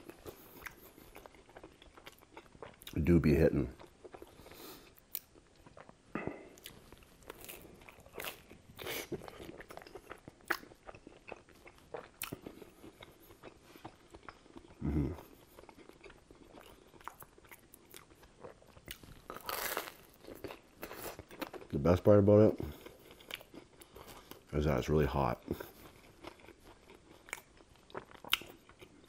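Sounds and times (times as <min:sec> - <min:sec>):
crunchy pizza chewing: 0:00.0 - 0:06.0, 0:06.6 - 0:24.6, 0:25.4 - 0:29.0.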